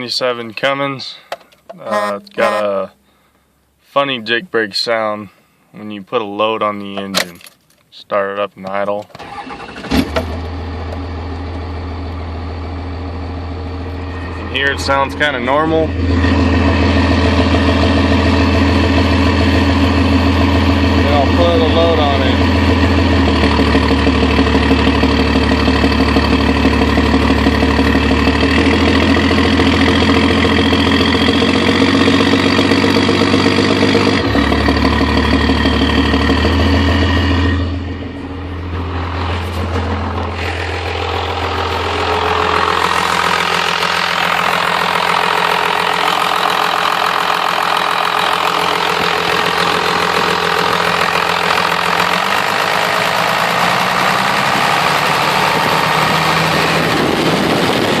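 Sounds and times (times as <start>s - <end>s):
diesel engine running under load: 9.2s - 58.0s.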